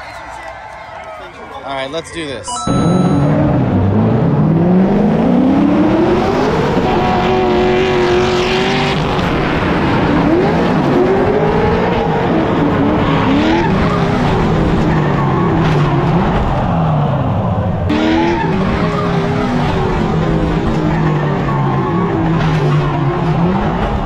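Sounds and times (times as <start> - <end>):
car engines at high revs: 3.2 - 24.0.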